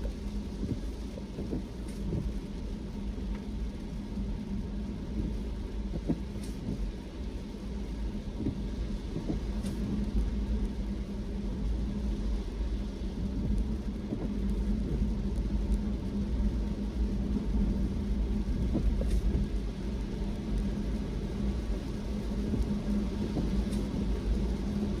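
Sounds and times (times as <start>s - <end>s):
car engine and tyre rumble: 0.0s - 25.0s
constant low hum: 0.0s - 25.0s.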